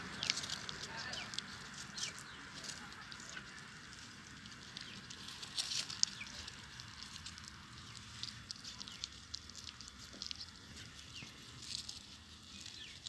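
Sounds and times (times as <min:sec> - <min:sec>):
puppies licking wet smacks: 0:00.0 - 0:12.4.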